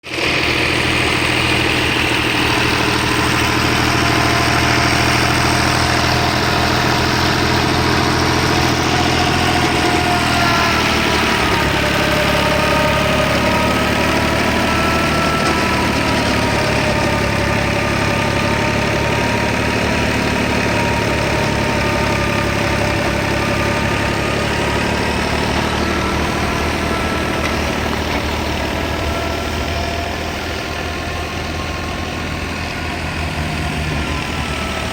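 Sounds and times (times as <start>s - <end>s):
tractor engine hum: 0.0s - 34.9s
thresher whining tone: 0.1s - 34.9s.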